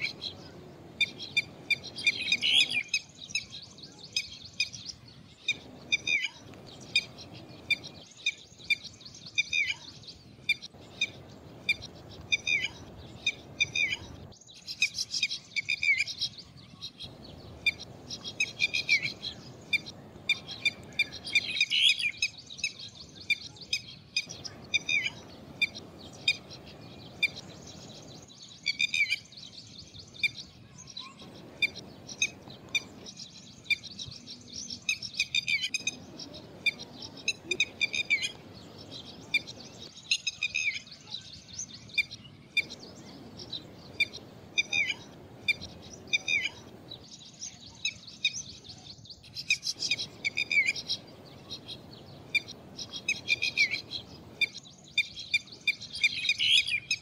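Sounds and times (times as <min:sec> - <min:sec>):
bulbuls chirping: 0:00.0 - 0:57.0.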